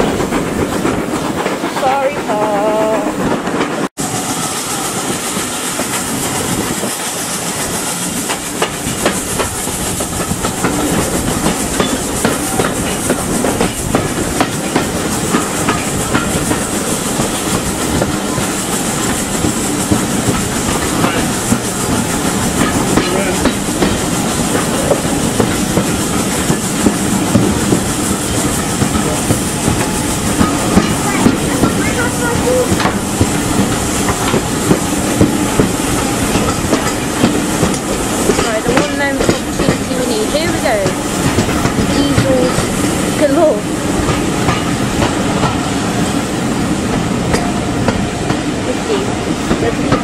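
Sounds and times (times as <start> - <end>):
continuous train rumble: 0.0 - 50.0
train wheels clicking over rail joints: 0.0 - 50.0.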